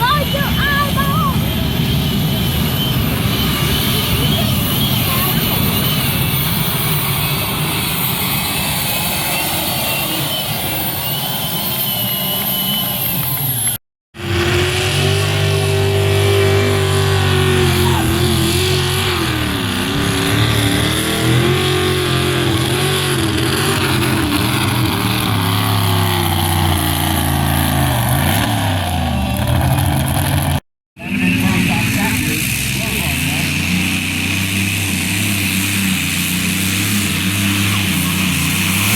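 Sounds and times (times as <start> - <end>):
engine at full throttle: 0.0 - 38.9.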